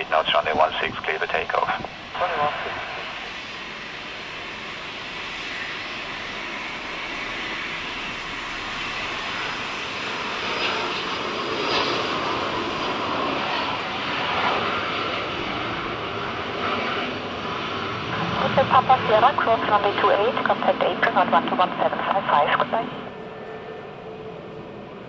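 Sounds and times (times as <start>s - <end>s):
jet engine rushing: 0.0s - 25.0s.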